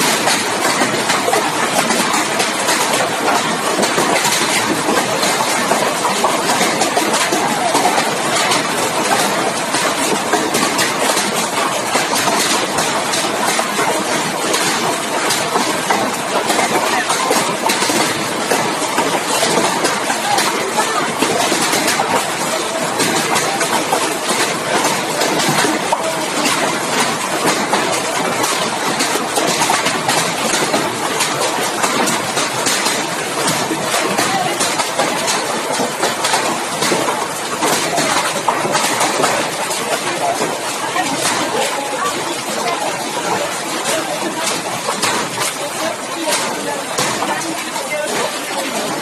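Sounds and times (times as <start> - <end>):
hailstones clattering: 0.0 - 49.0.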